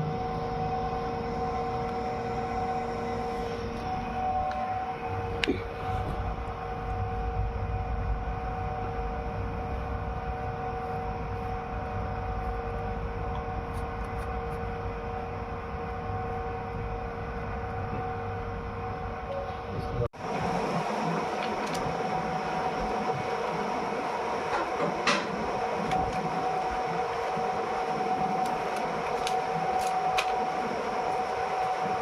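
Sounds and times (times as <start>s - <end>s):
machinery hum: 0.0s - 32.0s
steady whining tones: 0.0s - 32.0s.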